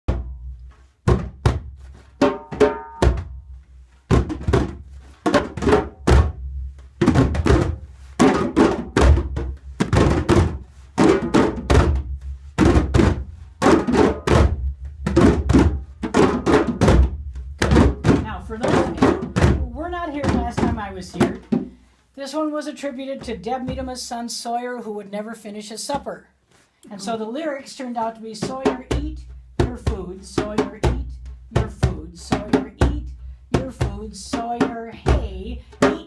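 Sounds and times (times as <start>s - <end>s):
drums thunking groove: 0.1s - 21.8s, 23.0s - 24.1s, 28.3s - 36.0s.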